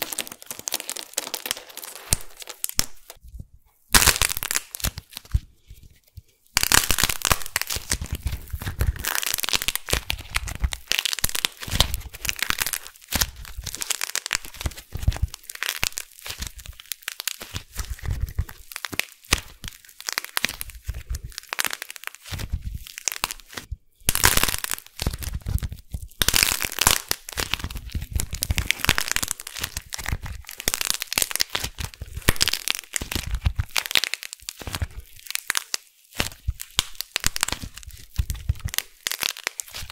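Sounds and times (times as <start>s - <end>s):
dried clay cracking and crumbling: 0.0s - 39.9s.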